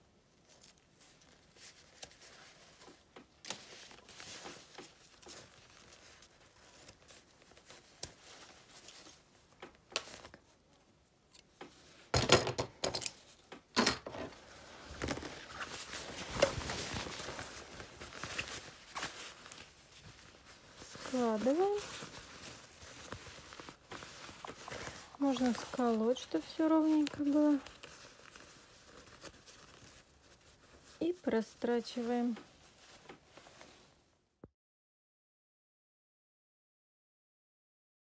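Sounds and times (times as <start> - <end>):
fabric rustling: 0.3 - 12.2, 13.2 - 34.4.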